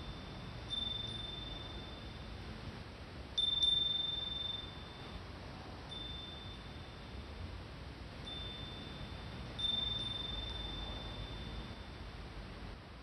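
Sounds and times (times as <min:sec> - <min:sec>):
iron wind bell ringing: 0:00.0 - 0:02.7, 0:03.4 - 0:12.6.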